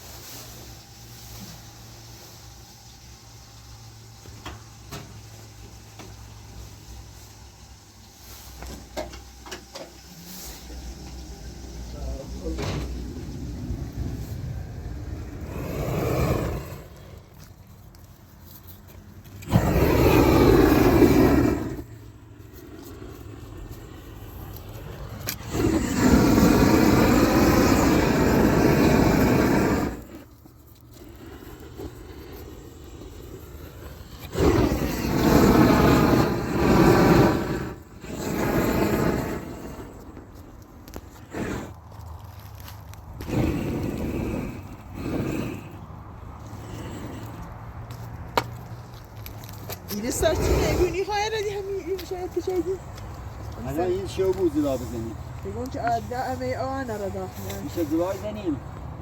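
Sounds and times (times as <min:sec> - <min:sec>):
gas torch roaring: 0:00.0 - 0:59.0.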